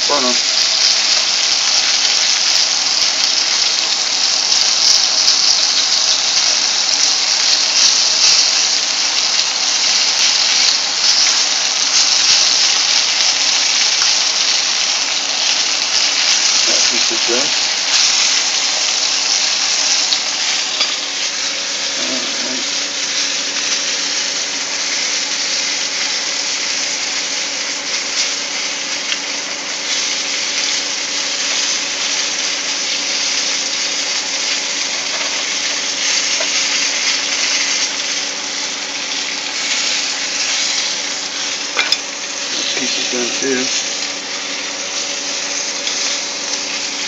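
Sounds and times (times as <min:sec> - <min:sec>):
meat sizzling in a frying pan: 0:00.0 - 0:47.0.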